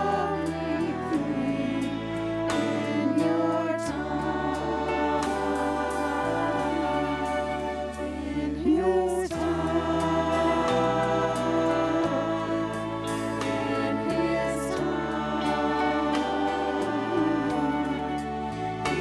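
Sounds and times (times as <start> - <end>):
choir singing a hymn: 0.0 - 19.0
instrumental accompaniment: 0.0 - 19.0.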